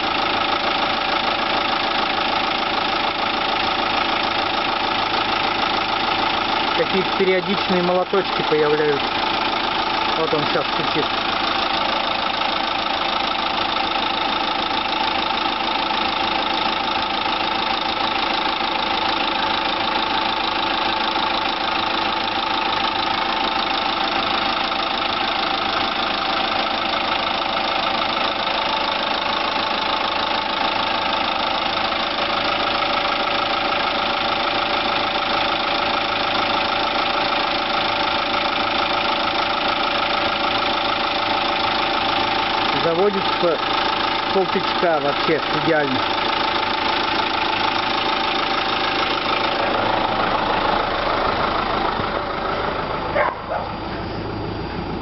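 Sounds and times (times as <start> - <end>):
diesel engine idling: 0.0 - 55.0
engine knocking: 0.0 - 55.0.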